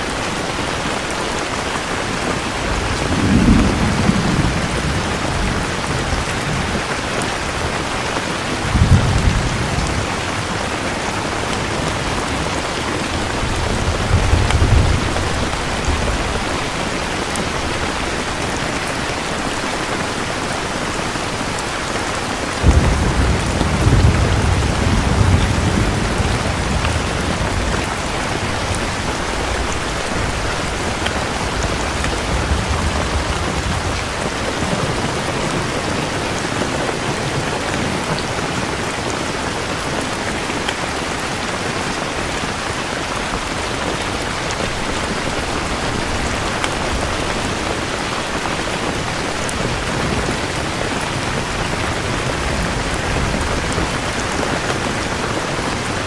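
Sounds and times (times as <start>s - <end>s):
heavy rain falling: 0.0s - 56.0s
thunder rumbling: 1.9s - 19.4s, 22.4s - 39.1s, 42.3s - 56.0s.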